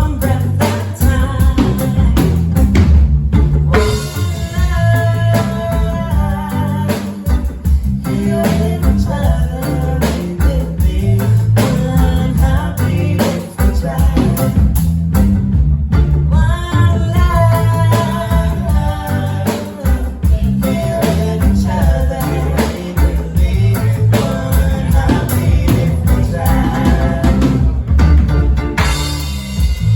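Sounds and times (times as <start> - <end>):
person singing: 0.0 - 2.6, 3.4 - 14.8, 16.3 - 27.8
drums: 0.0 - 29.9
guitar: 0.0 - 29.9.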